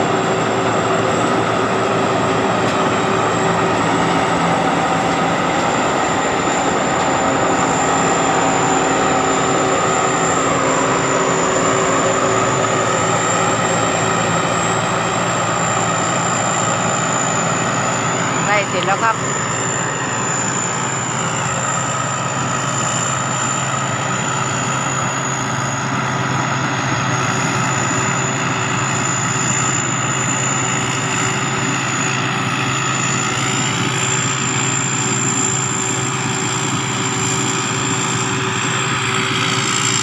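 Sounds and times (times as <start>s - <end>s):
combine harvester engine under load: 0.0s - 40.0s
high turbo whistle: 0.0s - 40.0s.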